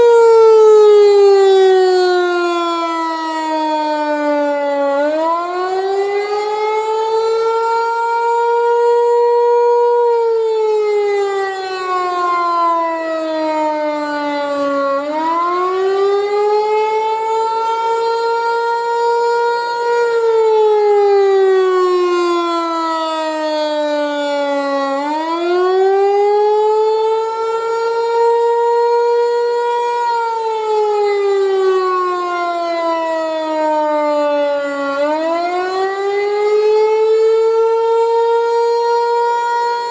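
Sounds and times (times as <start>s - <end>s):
rotating warning siren wailing: 0.0s - 39.9s.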